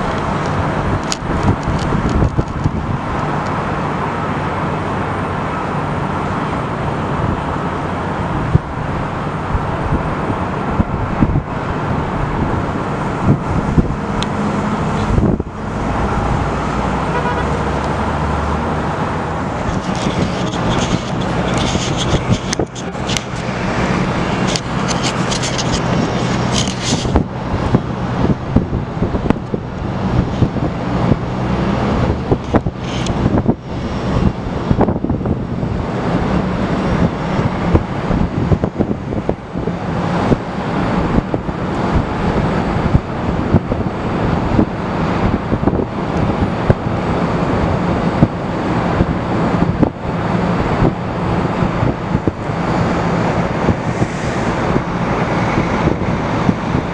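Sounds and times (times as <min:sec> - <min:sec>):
low engine drone: 0:00.0 - 0:56.9
wind buffeting microphone: 0:00.0 - 0:56.9.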